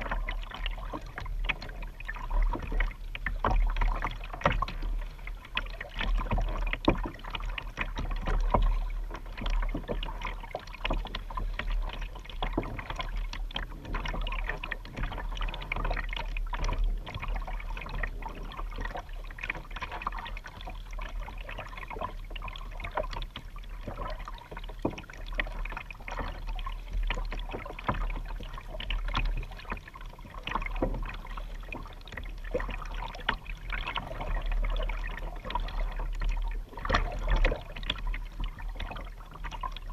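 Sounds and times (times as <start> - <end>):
paddle splashing in water: 0.0 - 39.9
water sloshing along hull: 0.0 - 39.9.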